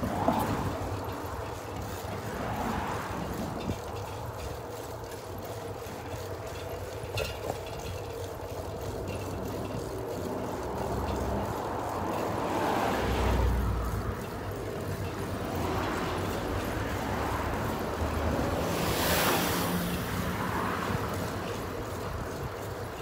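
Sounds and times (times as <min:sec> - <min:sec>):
bicycle road noise: 0:00.0 - 0:23.0
vehicle overtaking: 0:00.0 - 0:23.0.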